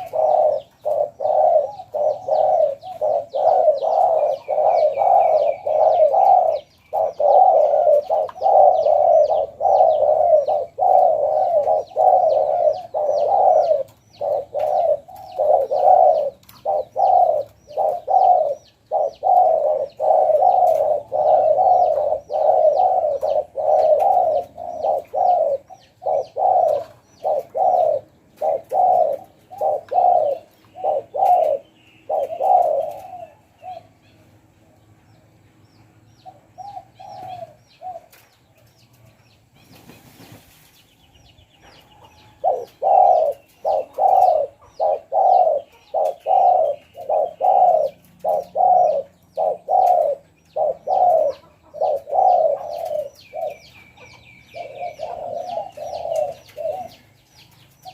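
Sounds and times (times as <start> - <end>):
dove cooing: 0.0 - 34.7, 35.9 - 40.3, 41.3 - 57.9
small birds chirping: 0.0 - 57.9.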